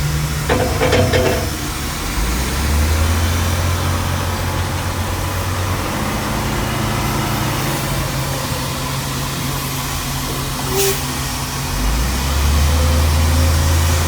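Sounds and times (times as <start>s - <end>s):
heavy engine humming: 0.0s - 14.0s.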